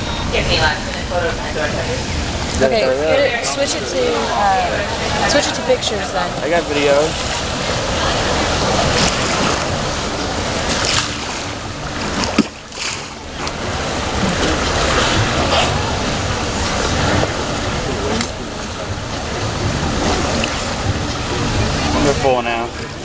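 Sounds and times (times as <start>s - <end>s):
water noise: 0.0s - 23.0s
wind: 0.0s - 23.0s.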